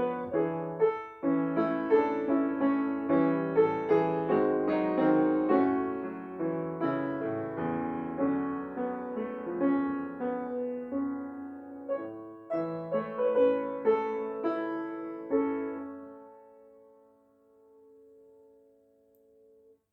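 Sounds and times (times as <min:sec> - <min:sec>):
solo piano chords: 0:00.0 - 0:19.8.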